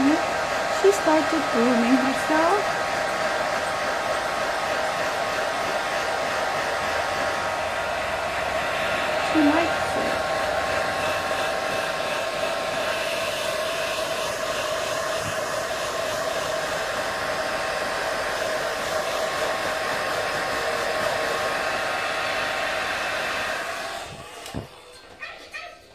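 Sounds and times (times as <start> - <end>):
hairdryer blowing: 0.0 - 25.5.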